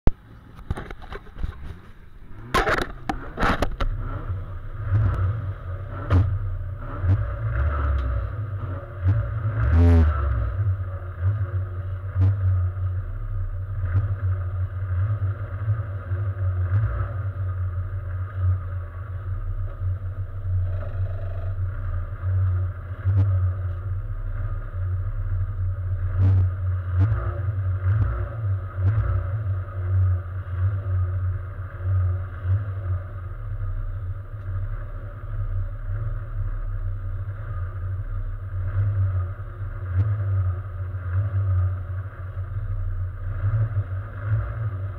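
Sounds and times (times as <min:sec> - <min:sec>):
race car engine idling: 0:00.1 - 0:44.9.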